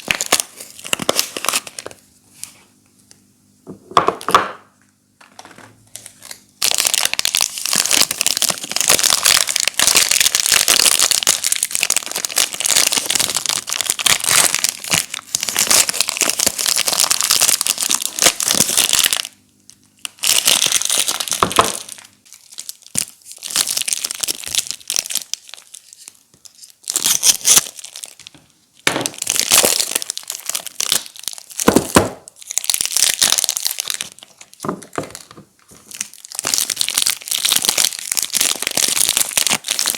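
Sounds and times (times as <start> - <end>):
plastic wrapper crinkling: 0.0 - 2.5, 5.2 - 39.9.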